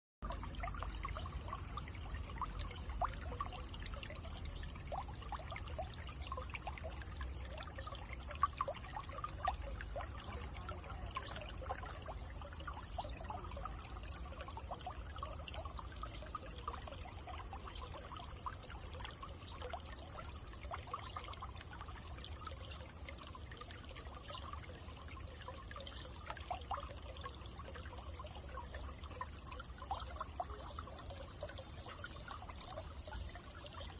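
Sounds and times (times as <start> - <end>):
stream trickling over stones: 0.2 - 33.9.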